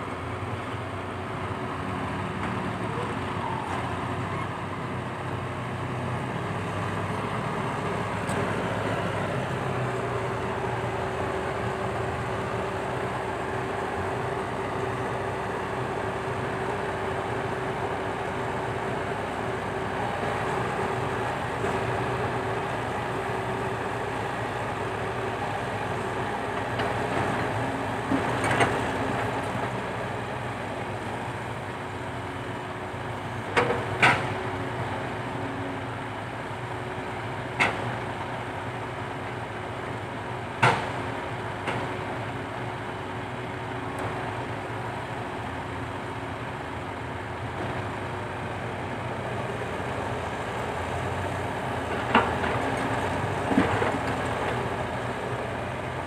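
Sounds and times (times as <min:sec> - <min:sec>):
excavator engine humming: 0:00.0 - 0:56.0.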